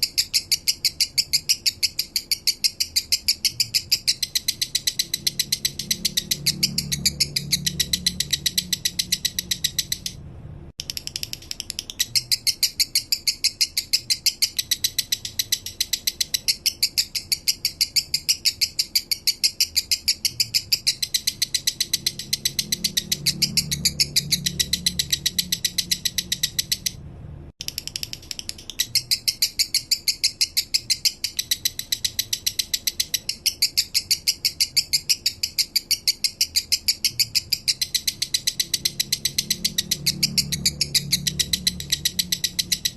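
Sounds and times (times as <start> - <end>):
lovebird chirping: 0.0 - 10.2, 10.8 - 27.0, 27.6 - 42.9.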